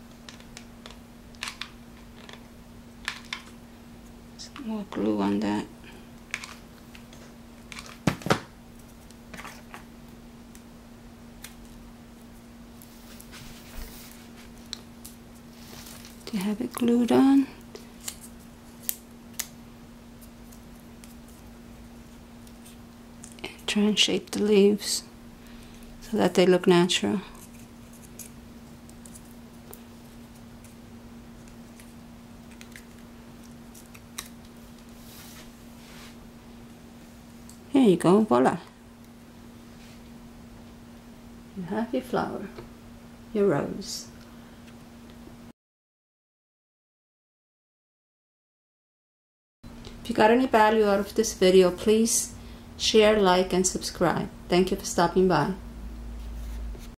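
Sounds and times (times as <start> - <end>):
faint steady hum: 0.0 - 45.5, 49.7 - 56.9.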